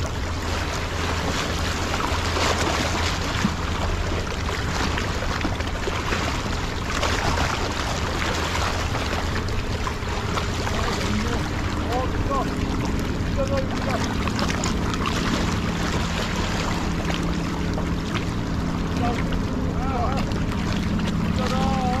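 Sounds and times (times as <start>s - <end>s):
waves lapping over rocks: 0.0s - 22.0s.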